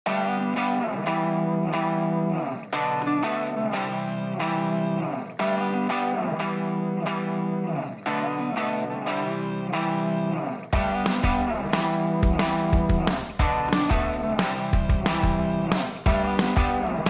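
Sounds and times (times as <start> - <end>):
distorted guitar music: 0.1 - 17.0.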